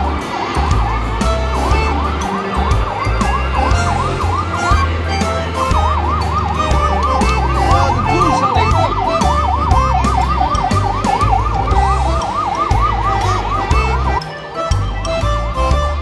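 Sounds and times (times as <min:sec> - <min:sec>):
electronic siren yelping wail: 0:00.0 - 0:15.3
bass beat: 0:00.0 - 0:16.0.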